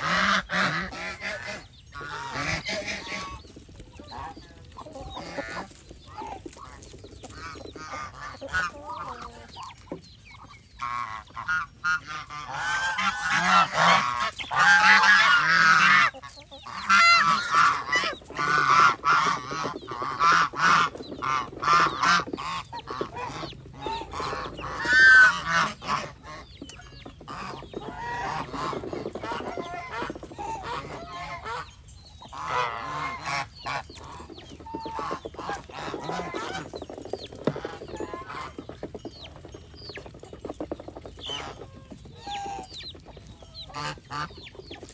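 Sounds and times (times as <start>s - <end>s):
geese honking: 0.0s - 39.5s, 41.0s - 44.9s.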